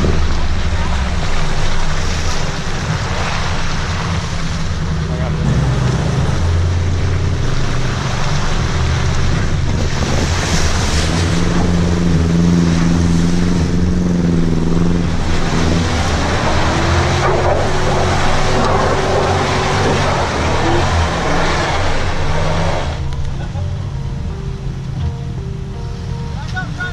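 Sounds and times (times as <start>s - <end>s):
vehicle engine revving under load: 0.0s - 23.9s
steady rushing noise: 0.0s - 26.9s.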